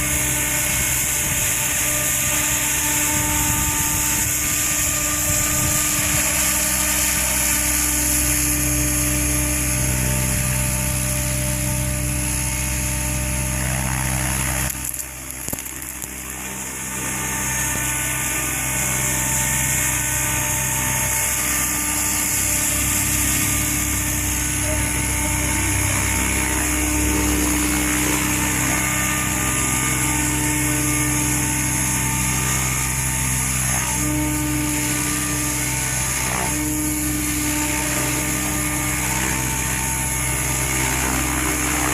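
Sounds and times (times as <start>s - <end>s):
model helicopter motor whine: 0.0s - 41.9s.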